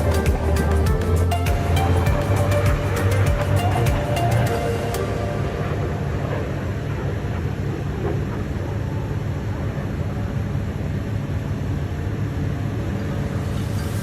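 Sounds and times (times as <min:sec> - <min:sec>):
aircraft engine rumble: 0:00.0 - 0:14.0.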